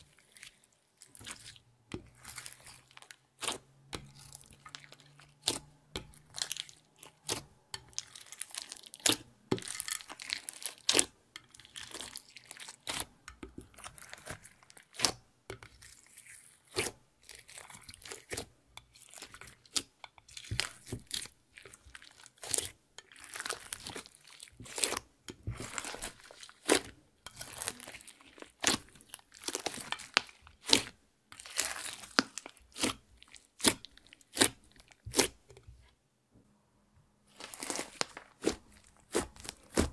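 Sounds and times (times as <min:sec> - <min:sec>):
beads crunching in slime: 0:00.0 - 0:13.1, 0:13.7 - 0:15.1, 0:15.7 - 0:35.4, 0:37.3 - 0:39.9
hands squeezing sticky slime: 0:00.0 - 0:35.4, 0:37.3 - 0:39.9.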